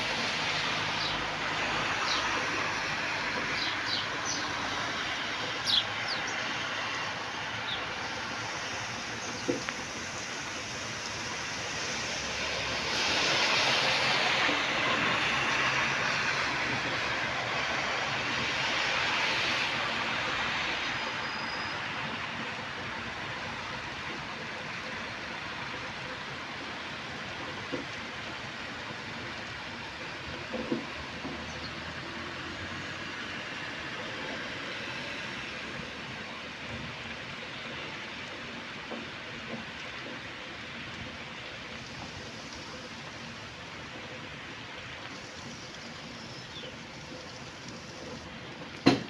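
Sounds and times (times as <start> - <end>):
heavy rain hissing: 0.0 - 49.0.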